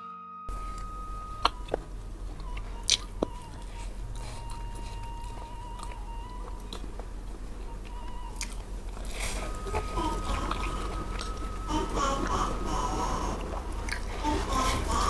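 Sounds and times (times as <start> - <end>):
person chewing food: 0.8 - 15.0.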